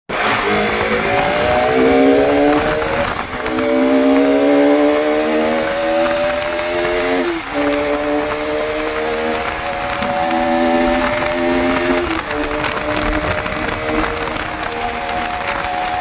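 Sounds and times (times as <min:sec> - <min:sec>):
motorcycle engine pulling hard: 0:00.1 - 0:16.0.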